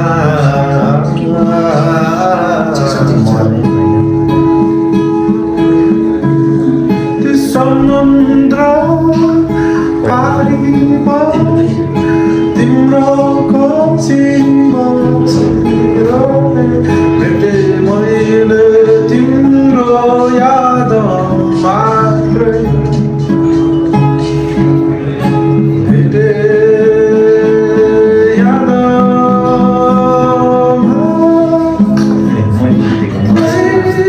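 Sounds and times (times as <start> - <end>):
man singing: 0.0 - 4.9, 6.6 - 34.0
acoustic guitar: 0.0 - 34.0.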